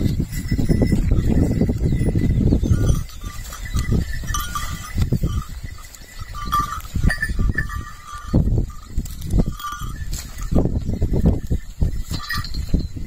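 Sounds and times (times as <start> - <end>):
hooves and plough thudding: 0.0 - 13.0
light ringing clinks: 0.0 - 13.0.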